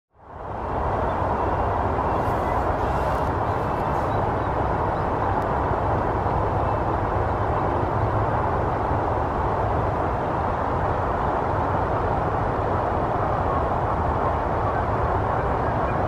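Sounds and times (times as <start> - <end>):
distant road traffic rumble: 0.3 - 14.8.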